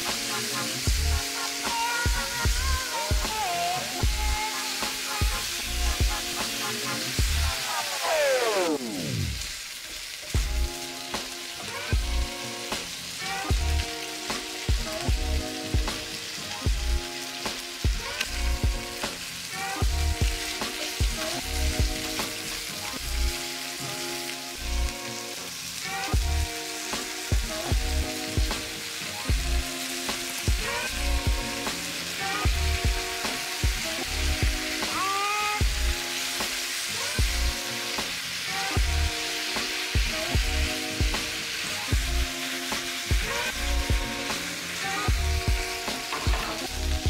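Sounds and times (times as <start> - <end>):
background music: 0.0 - 47.0
food sizzling in a frying pan: 0.0 - 47.0.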